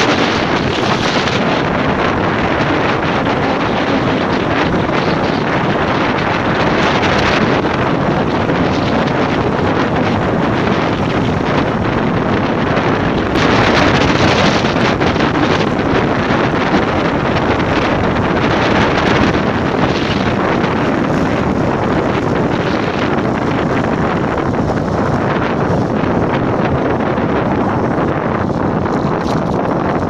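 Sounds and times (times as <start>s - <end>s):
vehicle running noise: 0.0s - 30.0s
wind rush on microphone: 0.0s - 30.0s.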